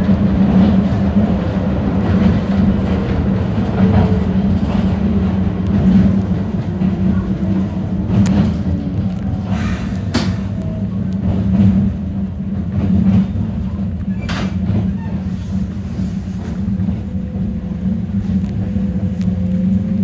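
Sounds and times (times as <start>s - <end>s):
electric train motors and wheels rumbling: 0.0s - 20.0s.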